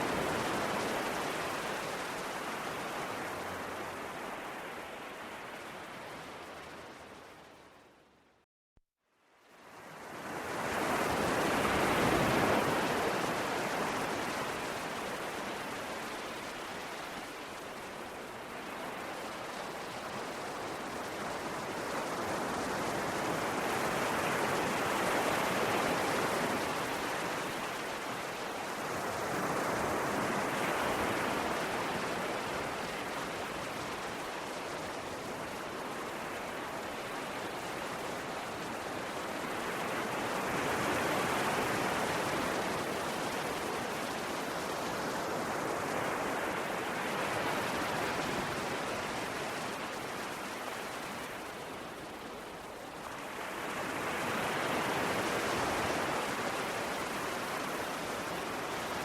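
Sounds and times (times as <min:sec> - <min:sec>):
ocean waves on a shore: 0:00.0 - 0:08.4, 0:09.2 - 0:59.0.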